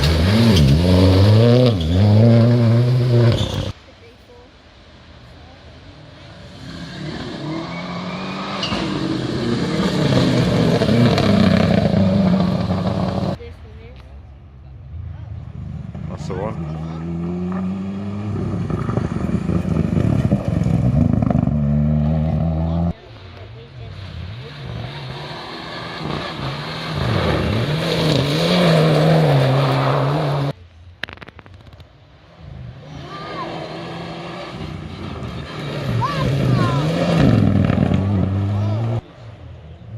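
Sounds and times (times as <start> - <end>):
rally car engine revving: 0.0 - 3.8, 6.4 - 13.4, 15.4 - 30.6, 32.3 - 39.9
tyres rushing on road: 0.0 - 30.6, 31.4 - 39.9.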